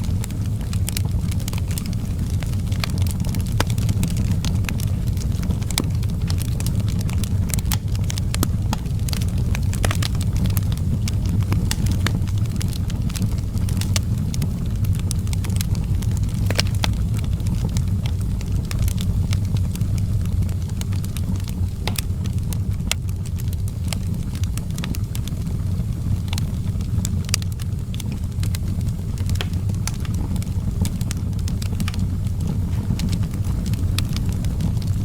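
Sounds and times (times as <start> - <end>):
fire popping: 0.0 - 35.0
low fire rumble: 0.0 - 35.0
wood fire crackling: 0.0 - 35.0.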